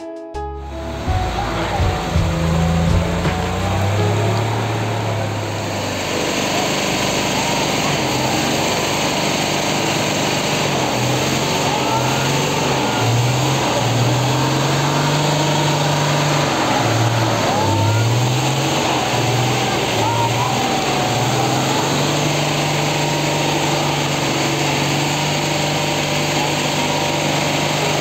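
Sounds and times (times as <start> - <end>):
vehicle engine revving under load: 0.7 - 28.0.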